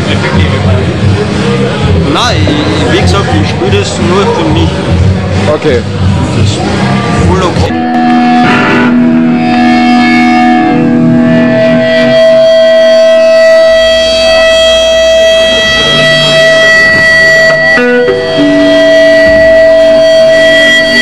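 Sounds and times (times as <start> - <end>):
distorted electric guitars: 0.0 - 21.0
guitar feedback whine: 0.0 - 21.0.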